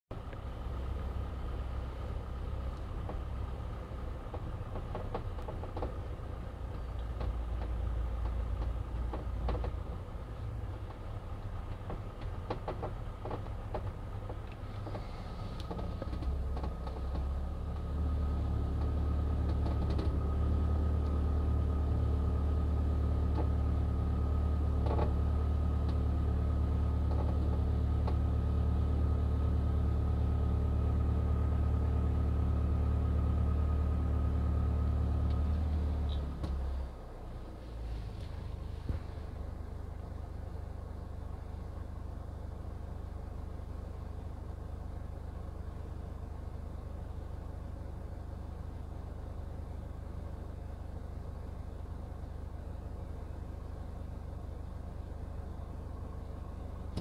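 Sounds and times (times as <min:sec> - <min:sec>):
car engine idling: 0:00.1 - 0:57.0.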